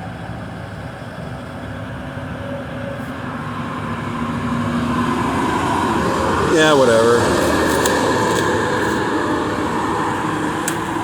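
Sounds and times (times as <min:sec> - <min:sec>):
heavy vehicle engine hum: 0:00.0 - 0:11.0
road noise: 0:00.0 - 0:11.0.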